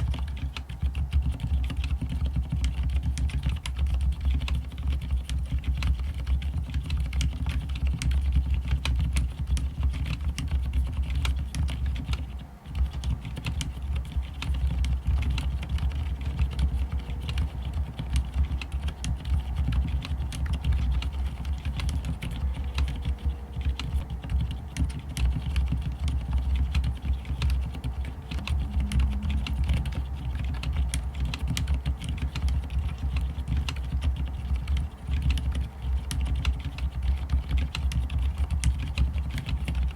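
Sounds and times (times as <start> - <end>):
soft muted keyboard typing: 0.0 - 39.9.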